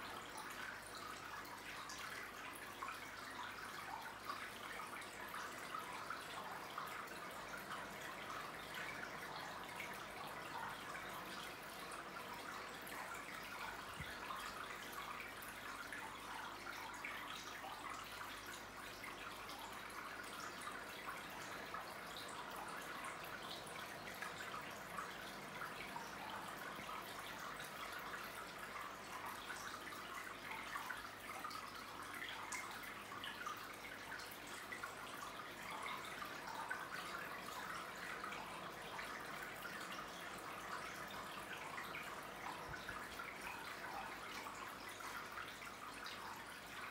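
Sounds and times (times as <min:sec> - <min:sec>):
faint steady hum: 0:00.0 - 0:46.9
water trickling and splashing: 0:00.0 - 0:46.9.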